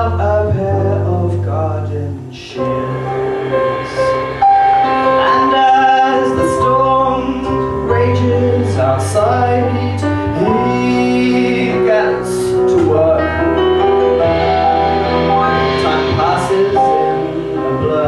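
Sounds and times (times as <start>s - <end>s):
person singing live: 0.0s - 18.0s
steady bass line: 0.0s - 18.0s.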